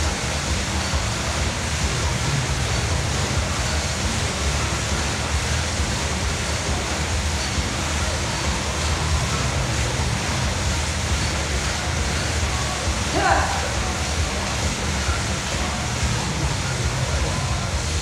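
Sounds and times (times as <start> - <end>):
air bike fan whooshing: 0.0 - 18.0.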